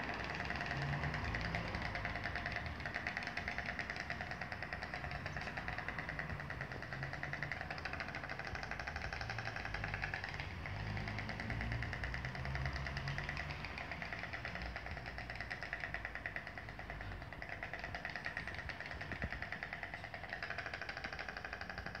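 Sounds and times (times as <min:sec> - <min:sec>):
storks clattering bills: 0:00.0 - 0:22.0.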